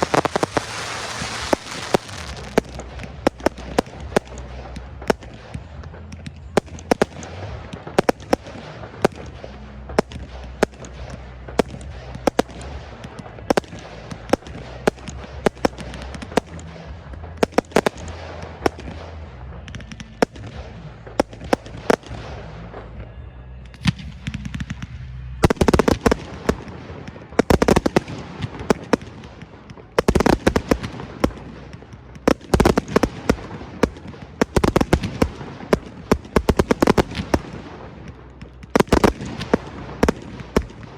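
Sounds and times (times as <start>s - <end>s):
fireworks bursts and bangs: 0.0s - 40.9s
rapid crackling fireworks: 0.0s - 40.9s.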